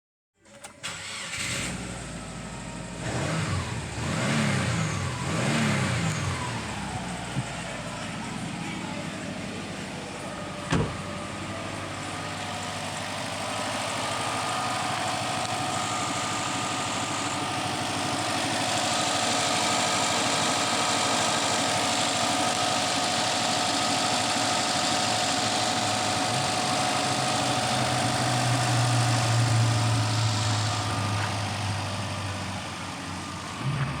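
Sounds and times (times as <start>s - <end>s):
car engine idling: 1.0s - 34.0s.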